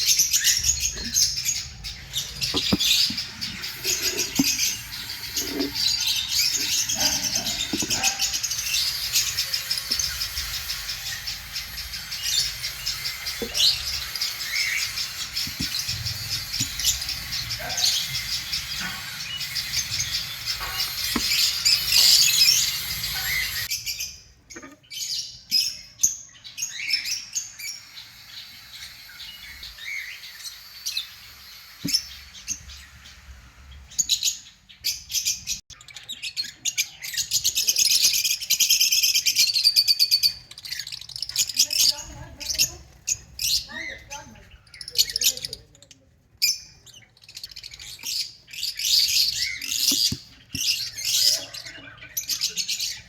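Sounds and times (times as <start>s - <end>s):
lovebirds chirping: 0.0s - 53.0s.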